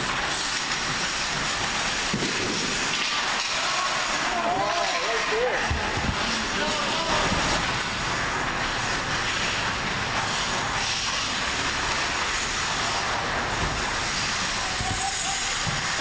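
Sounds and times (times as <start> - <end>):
rushing noise of ice rink: 0.0 - 16.0
skate blades scraping ice: 0.0 - 16.0.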